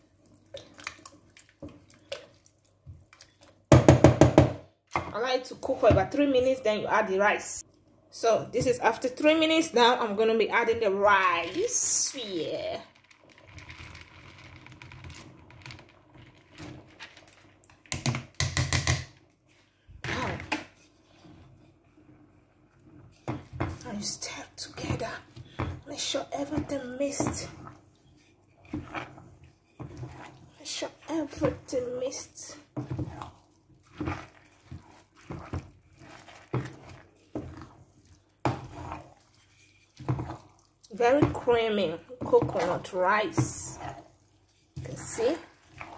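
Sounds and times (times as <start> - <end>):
spoon stirring wet rice in pot: 0.0 - 6.7, 7.6 - 19.6, 20.2 - 45.9.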